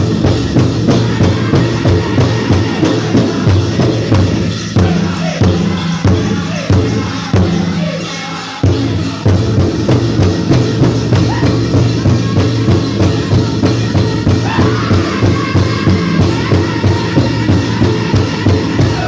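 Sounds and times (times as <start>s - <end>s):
big hand drum beating: 0.0s - 7.9s, 8.6s - 19.0s
drum group singing: 0.0s - 19.0s.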